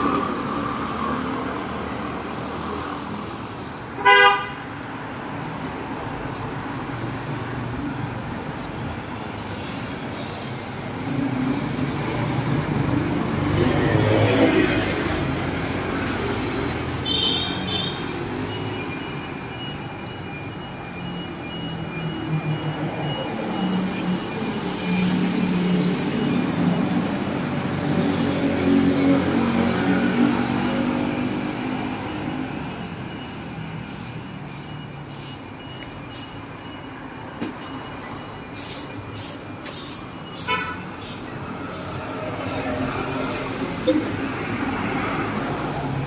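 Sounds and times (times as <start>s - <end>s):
car and motorcycle traffic: 0.0s - 46.0s.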